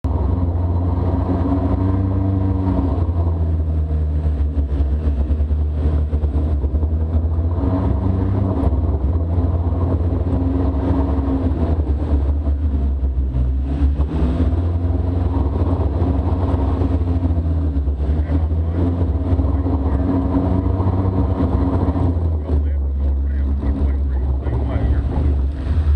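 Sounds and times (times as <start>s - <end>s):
utility vehicle engine running: 0.0s - 25.9s.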